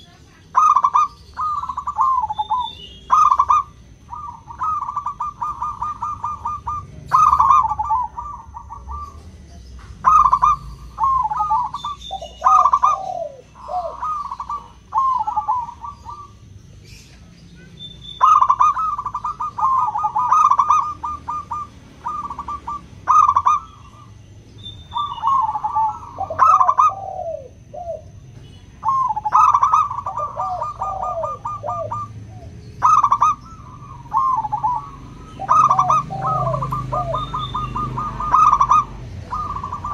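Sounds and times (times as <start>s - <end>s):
dove cooing: 0.0s - 17.2s, 18.1s - 39.9s.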